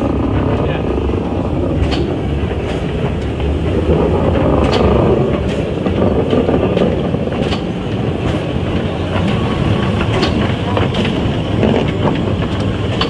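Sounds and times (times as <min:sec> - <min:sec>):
steam train running slowly: 0:00.0 - 0:13.0
wheels clicking: 0:00.0 - 0:13.0.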